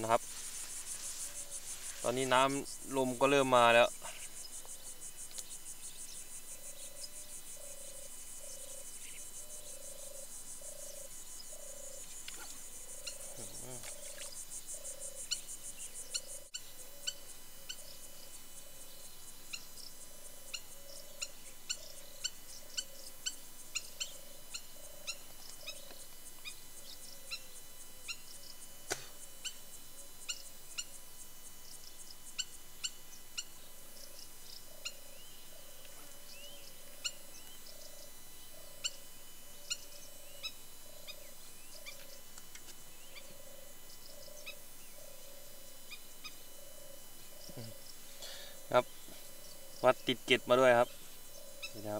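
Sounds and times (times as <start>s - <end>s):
lower bird call: 0.0s - 18.9s, 19.5s - 31.0s, 32.0s - 51.9s
birds chirping: 0.0s - 51.9s
steady hiss: 0.0s - 51.9s.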